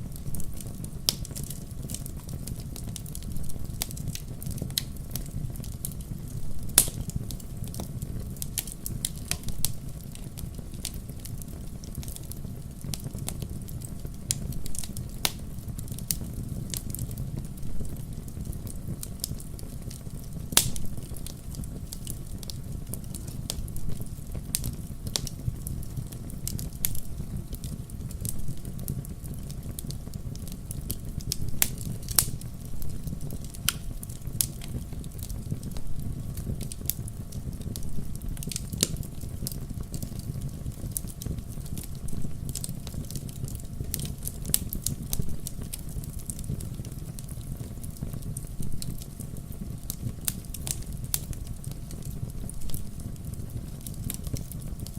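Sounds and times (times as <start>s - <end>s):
firewood crackling and popping: 0.0s - 54.9s
low fire rumble: 0.0s - 54.9s.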